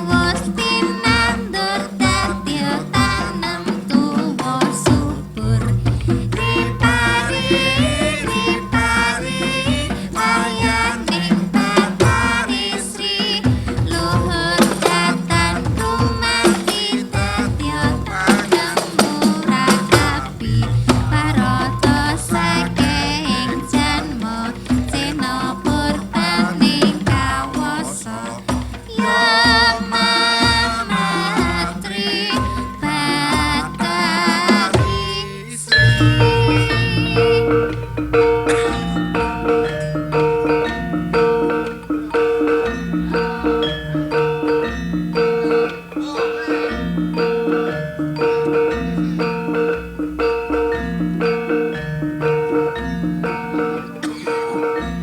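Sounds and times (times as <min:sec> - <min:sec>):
gamelan ensemble playing: 0:00.0 - 0:55.0
hand drum strokes: 0:00.0 - 0:55.0
person singing: 0:00.0 - 0:55.0.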